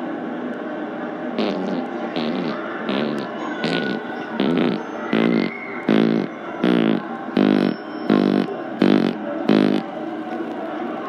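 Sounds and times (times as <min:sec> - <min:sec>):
man imitating fart noises: 0:01.4 - 0:10.6.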